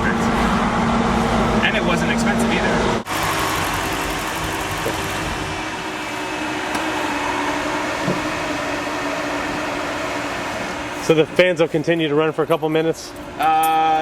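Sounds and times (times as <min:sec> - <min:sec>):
radiator cooling fans whirring: 0:00.0 - 0:14.0.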